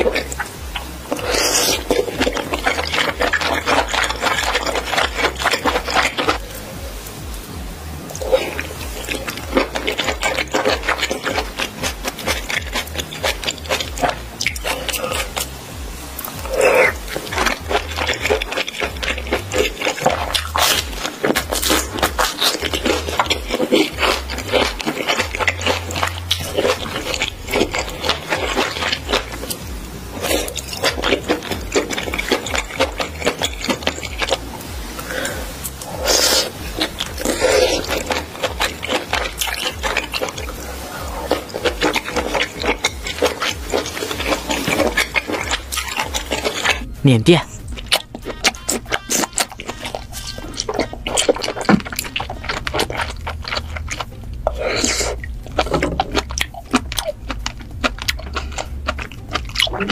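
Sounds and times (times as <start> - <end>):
woman slurping and chewing noodles: 0.0 - 59.9.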